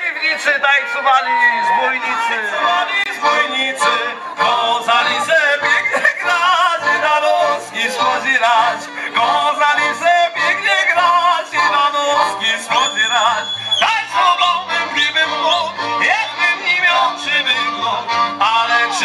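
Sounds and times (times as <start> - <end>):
accordion: 0.0 - 19.0
violin: 0.6 - 19.0
voices singing a lively tune: 0.6 - 19.0
clarinet: 1.6 - 19.0
double bass: 3.2 - 19.0.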